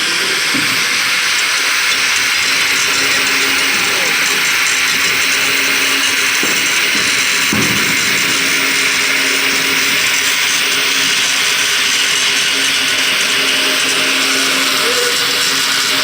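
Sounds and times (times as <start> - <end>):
loud hissing machine noise: 0.0 - 16.0.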